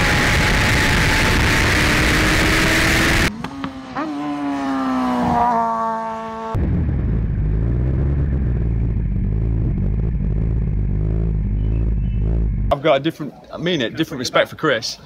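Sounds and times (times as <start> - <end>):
engine slowing with throttle blips: 0.0 - 12.9.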